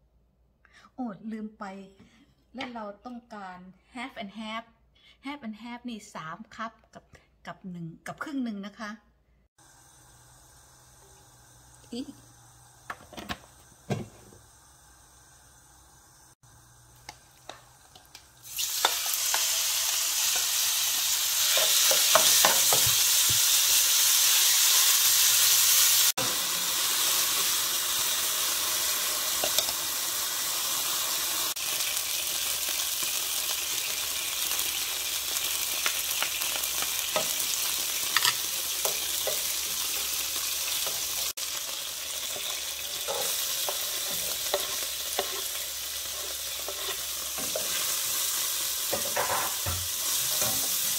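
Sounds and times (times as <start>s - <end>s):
chicken sizzling in hot oil: 9.6s - 50.9s.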